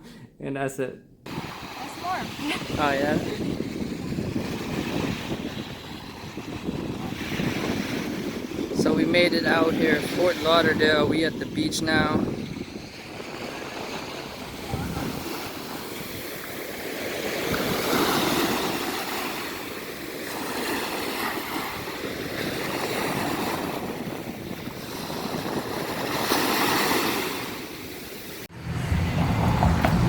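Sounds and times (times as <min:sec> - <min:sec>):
ocean waves breaking on beach: 0:01.3 - 0:30.0.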